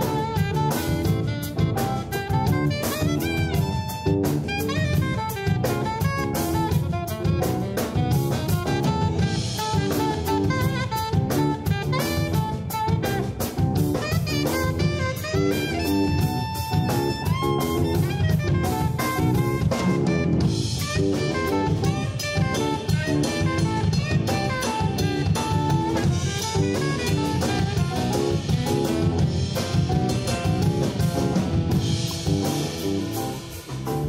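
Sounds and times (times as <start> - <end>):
bass: 0.0 - 34.0
drum kit with busy cymbals: 0.0 - 34.0
saxophone melodic lines: 0.0 - 34.0.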